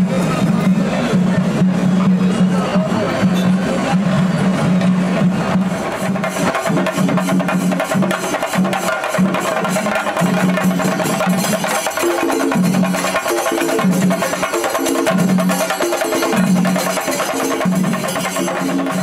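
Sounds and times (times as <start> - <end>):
music with rapid dense drumming: 0.0 - 19.0.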